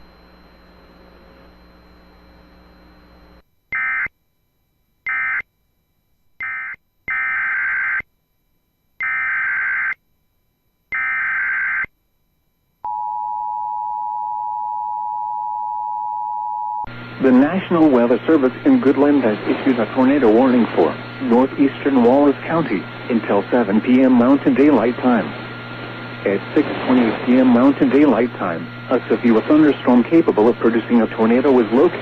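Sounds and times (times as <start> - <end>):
faint hum: 0.0 - 32.0.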